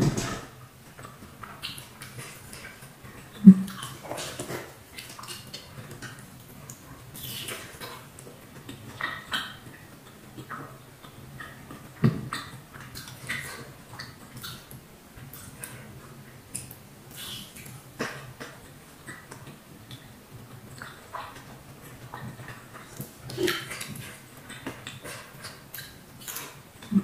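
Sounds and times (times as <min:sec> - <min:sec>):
wet chewing and lip-smacking: 0:00.8 - 0:27.0.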